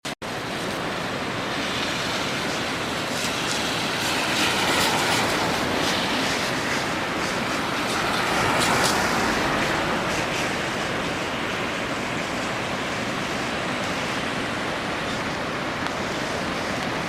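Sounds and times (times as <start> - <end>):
waves breaking on beach: 0.2 - 17.0.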